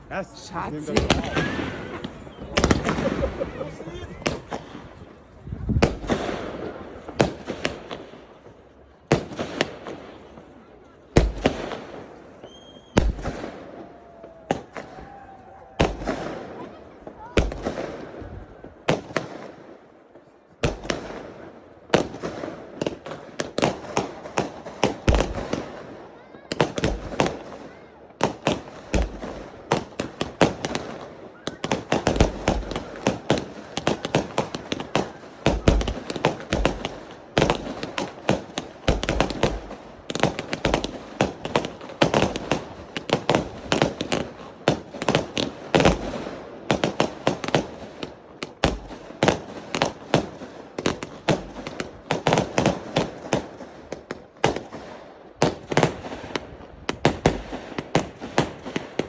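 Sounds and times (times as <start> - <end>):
low fireworks booms: 0.0 - 59.0
fireworks bangs and crackles: 0.1 - 59.0.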